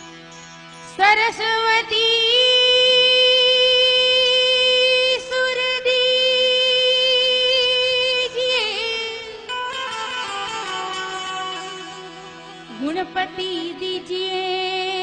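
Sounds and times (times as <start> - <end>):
person singing devotional song: 0.0 - 10.0, 10.7 - 15.0.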